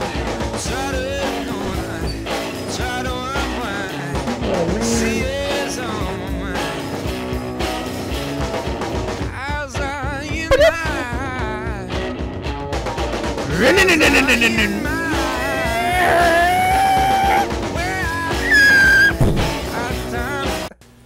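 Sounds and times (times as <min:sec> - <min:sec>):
rock music with singing: 0:00.0 - 0:20.8.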